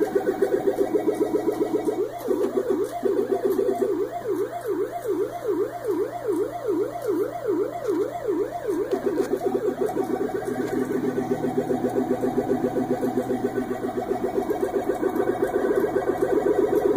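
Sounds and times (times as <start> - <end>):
electronic siren warbling: 0.0 - 16.9.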